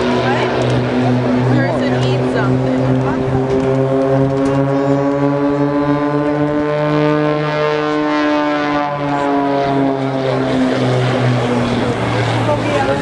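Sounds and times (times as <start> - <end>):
propeller planes droning: 0.0 - 13.0.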